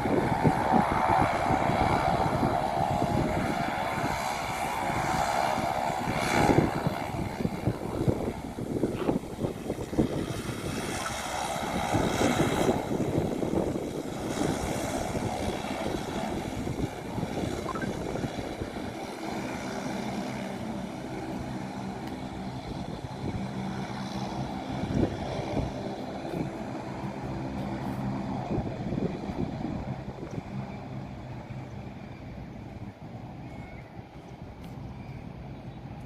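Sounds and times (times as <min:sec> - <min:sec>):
aircraft engine hum: 0:00.0 - 0:36.0.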